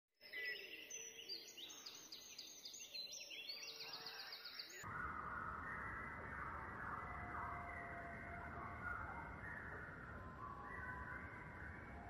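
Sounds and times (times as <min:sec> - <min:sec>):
songbirds chirping and trilling: 0:00.2 - 0:12.0.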